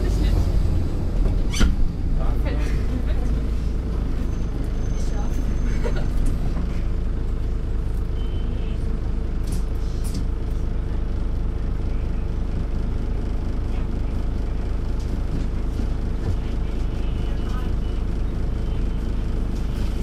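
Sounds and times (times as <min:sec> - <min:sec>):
diesel bus engine idling: 0:00.0 - 0:20.0.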